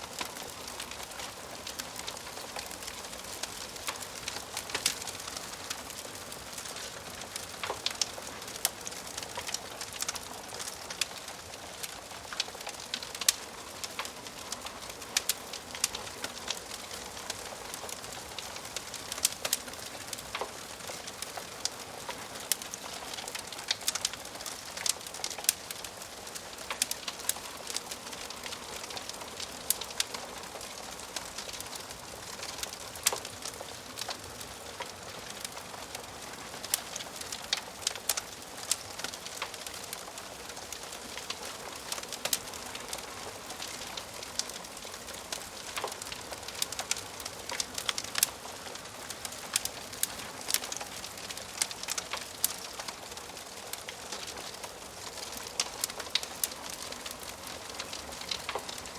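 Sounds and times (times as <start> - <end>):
burning logs crackling and popping: 0.0 - 58.9.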